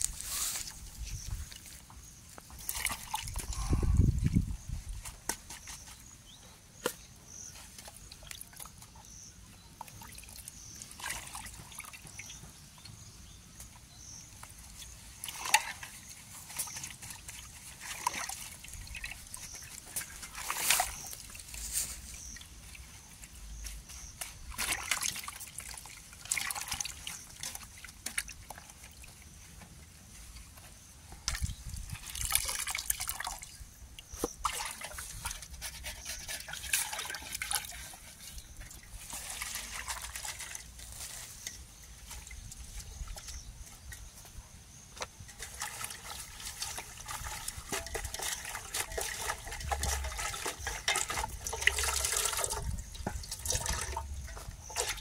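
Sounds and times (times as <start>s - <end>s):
water sloshing and trickling: 0.0s - 55.0s.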